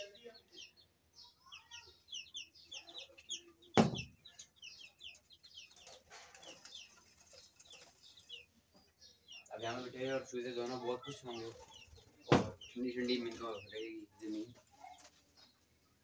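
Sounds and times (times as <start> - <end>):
chicks cheeping: 0.0 - 16.0.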